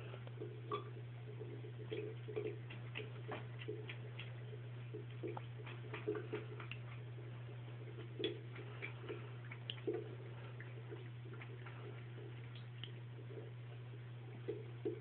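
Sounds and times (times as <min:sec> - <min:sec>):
steady low hum: 0:00.0 - 0:15.0
cat lapping water: 0:00.2 - 0:15.0.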